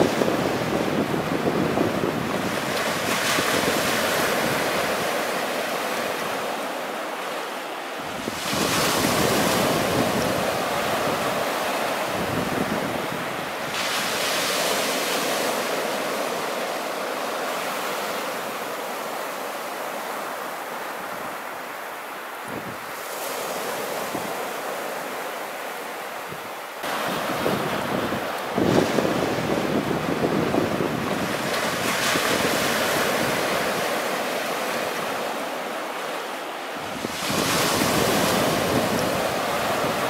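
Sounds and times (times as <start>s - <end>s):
small waves breaking on beach: 0.0s - 40.0s.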